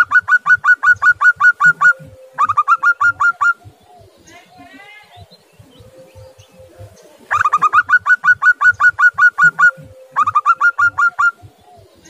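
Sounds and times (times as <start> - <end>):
dove calling in rapid notes: 0.0 - 12.0.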